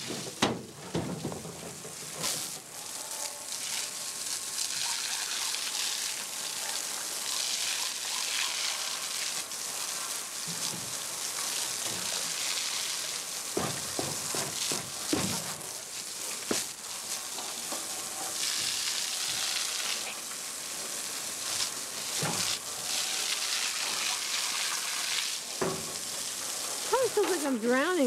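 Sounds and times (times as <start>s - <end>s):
hose spraying water on concrete: 0.0s - 28.0s.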